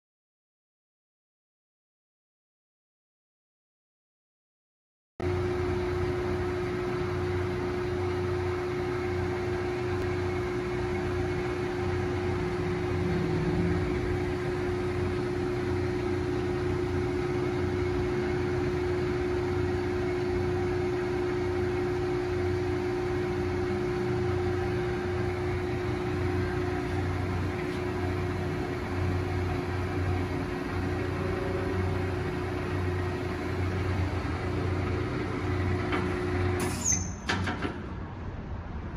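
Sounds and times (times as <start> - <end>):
electric machinery hum: 5.2 - 37.2.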